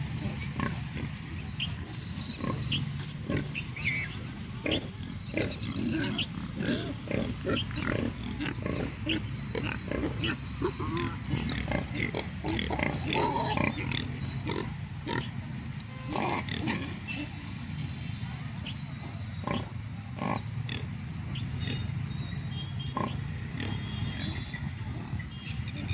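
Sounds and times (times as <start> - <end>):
pigs grunting and squealing: 0.0 - 15.4, 16.0 - 17.6, 19.0 - 22.1, 22.9 - 25.9.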